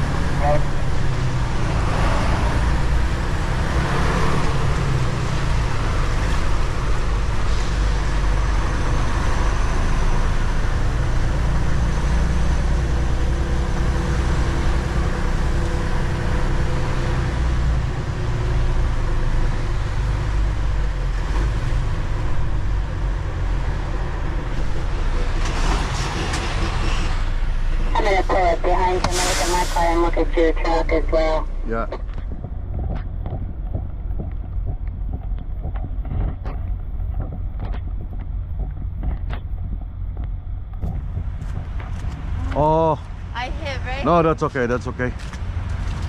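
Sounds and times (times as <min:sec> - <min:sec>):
truck engine and road noise: 0:00.0 - 0:46.0.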